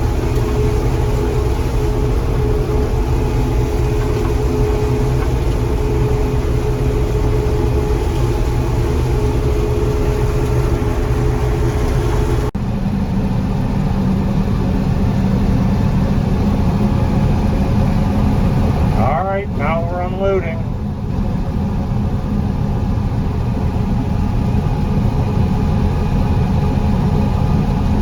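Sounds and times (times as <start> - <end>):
combine harvester engine drone: 0.0 - 28.0
lower steady machine drone: 0.0 - 28.0.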